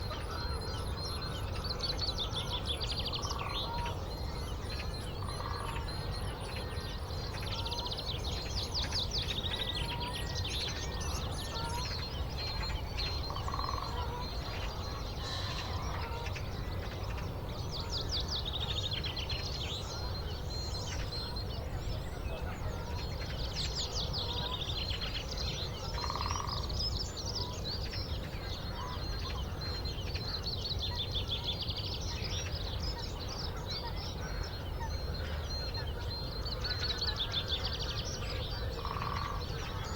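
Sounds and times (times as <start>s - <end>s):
wild birds singing: 0.0s - 39.9s.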